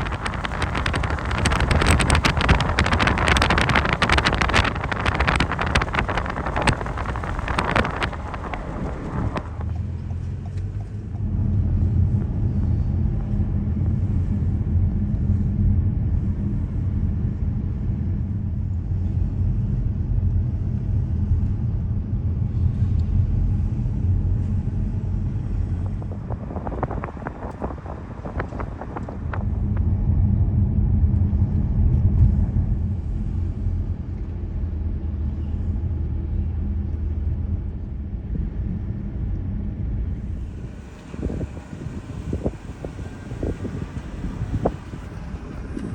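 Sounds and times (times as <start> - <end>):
vehicle engine and road drone: 0.0 - 45.9
wind rushing over microphone: 0.0 - 45.9.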